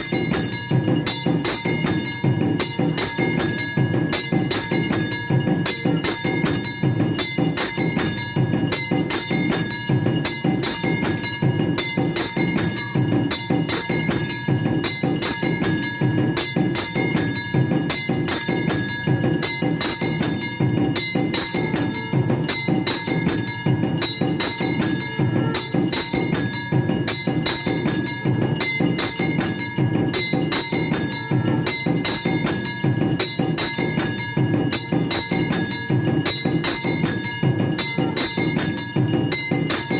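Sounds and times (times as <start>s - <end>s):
bells ringing rapidly: 0.0s - 39.9s
fast steady drumming: 0.0s - 39.9s.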